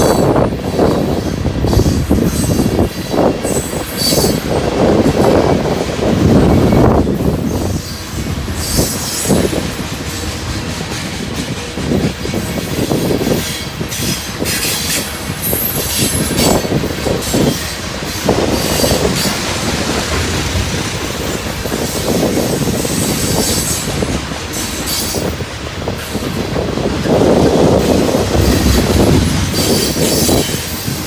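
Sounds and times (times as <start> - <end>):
train wheels clattering over rail joints: 0.0 - 31.0.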